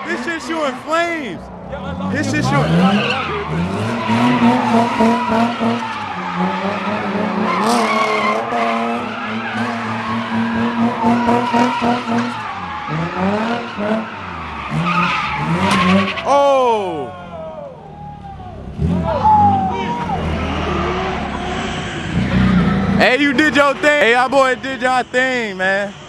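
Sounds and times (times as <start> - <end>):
car engine revving: 0.0 - 17.1, 18.6 - 26.0
tires squealing: 0.0 - 26.0.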